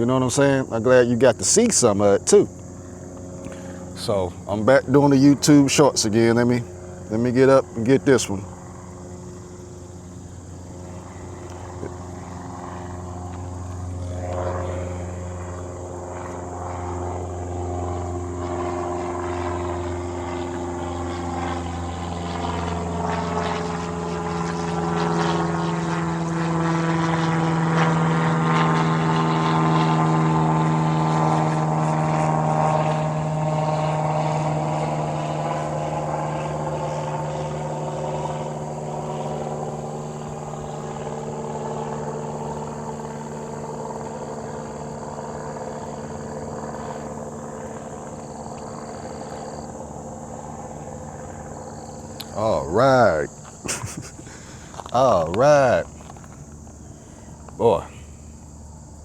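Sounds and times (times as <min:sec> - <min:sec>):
airplane passing overhead: 0:00.0 - 0:59.0.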